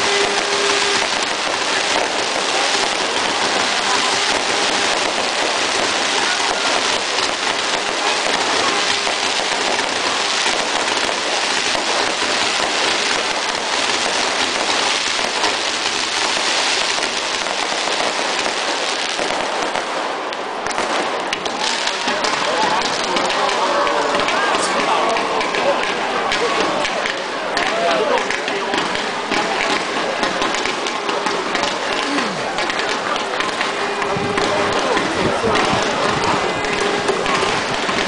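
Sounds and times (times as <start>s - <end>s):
fireworks crackling: 0.0s - 38.0s.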